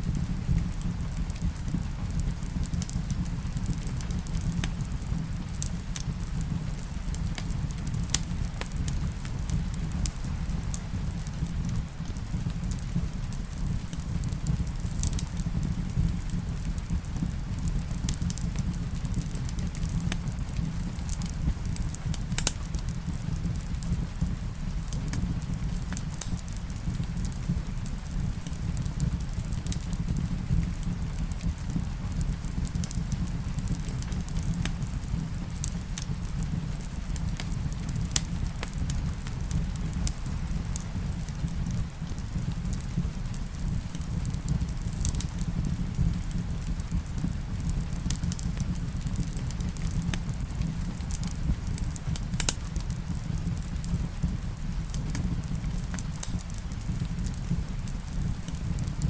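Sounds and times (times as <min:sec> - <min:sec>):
rain: 0:00.0 - 0:59.0
wood fire crackling and popping: 0:00.0 - 0:59.0.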